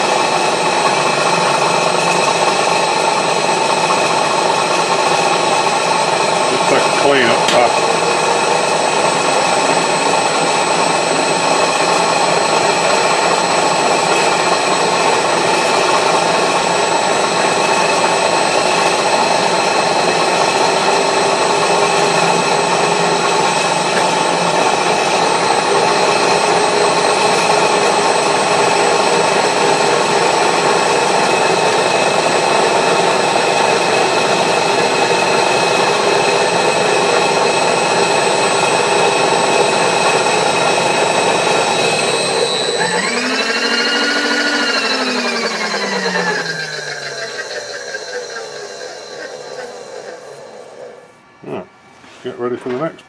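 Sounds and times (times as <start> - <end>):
machine tool cutting steel: 0.0 - 51.1
high machine whine: 0.0 - 51.8.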